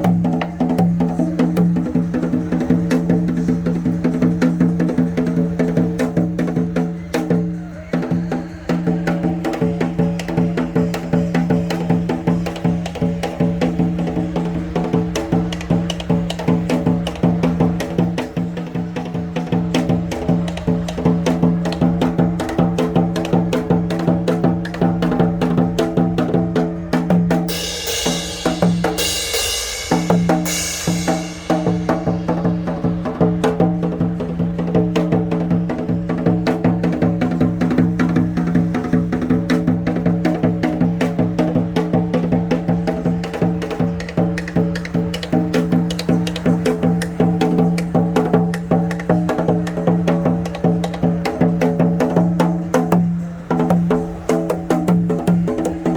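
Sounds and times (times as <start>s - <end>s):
hourglass drum playing: 0.0s - 55.9s.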